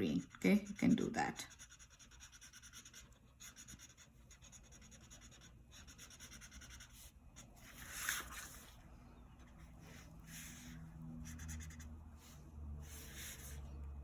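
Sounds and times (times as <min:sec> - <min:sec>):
marker scratching on paper: 0:00.0 - 0:13.7.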